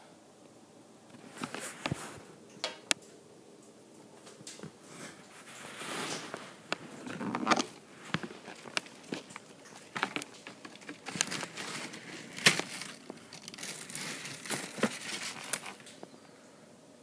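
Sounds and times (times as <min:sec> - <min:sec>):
rustling and crinkling handling noise: 0:01.0 - 0:16.2.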